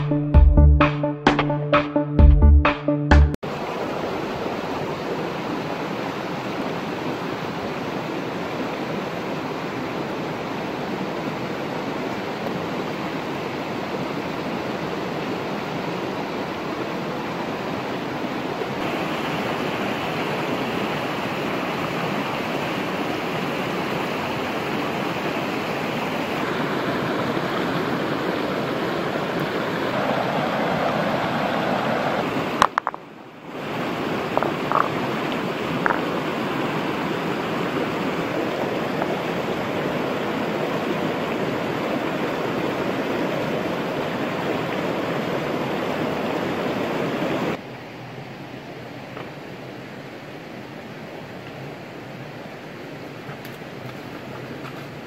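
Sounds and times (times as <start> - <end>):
water rushing over rocks: 3.4 - 47.6.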